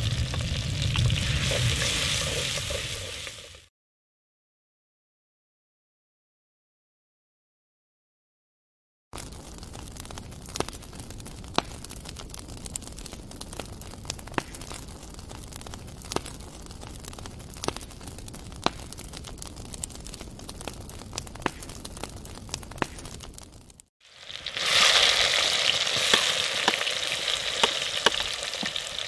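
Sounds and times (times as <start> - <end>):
wood fire crackling and popping: 0.0 - 3.7, 9.2 - 29.0.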